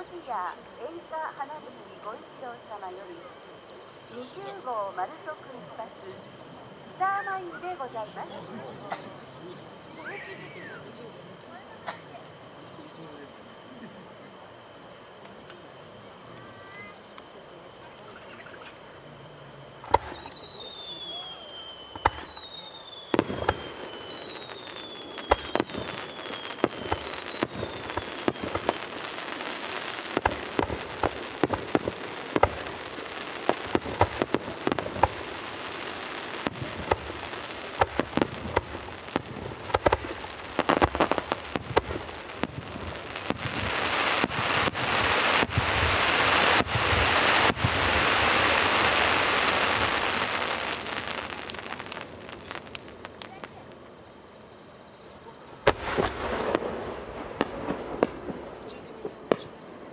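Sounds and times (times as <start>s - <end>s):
fireworks bangs: 0.0s - 59.9s
fireworks crackling hiss: 0.0s - 59.9s
fireworks whistles: 0.0s - 59.9s.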